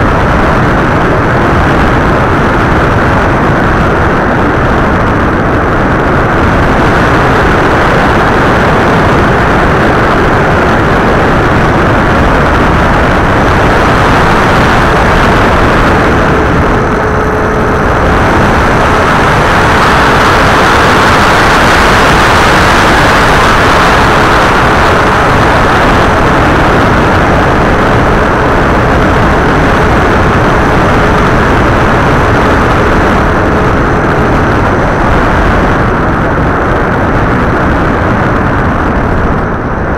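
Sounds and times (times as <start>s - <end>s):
faint motor hum: 0.0s - 39.9s
rush of wind and propeller: 0.0s - 39.9s.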